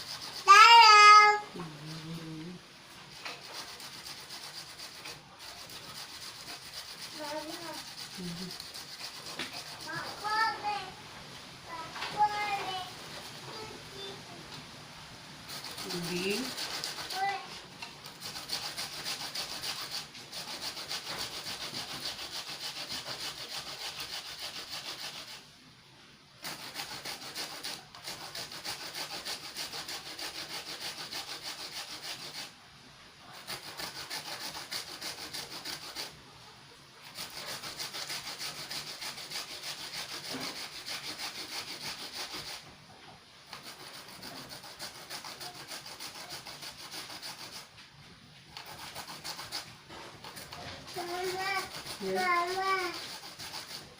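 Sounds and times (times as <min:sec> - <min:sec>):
grater scraping sweet potato: 0:00.0 - 0:10.6, 0:15.5 - 0:25.4, 0:26.4 - 0:32.6, 0:33.2 - 0:36.2, 0:37.0 - 0:42.7, 0:43.5 - 0:47.8, 0:48.6 - 0:53.9.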